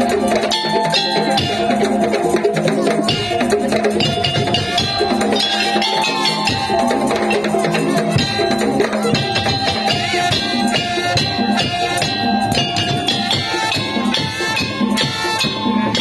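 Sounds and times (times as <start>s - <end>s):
held melodic line: 0.0s - 16.0s
percussion ensemble playing a driving beat: 0.0s - 16.0s
shaken rattle percussion: 0.0s - 16.0s.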